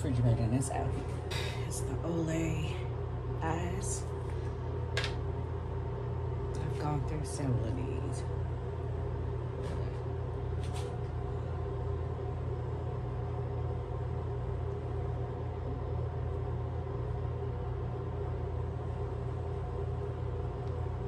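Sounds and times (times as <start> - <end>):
ventilation fan humming: 0.0 - 21.0.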